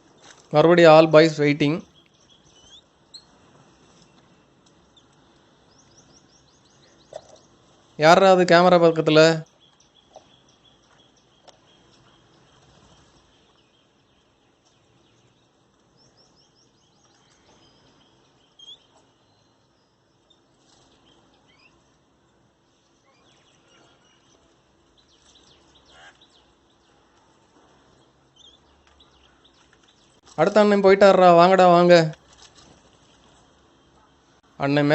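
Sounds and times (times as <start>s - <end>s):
garden birds chirping: 0.0s - 34.9s.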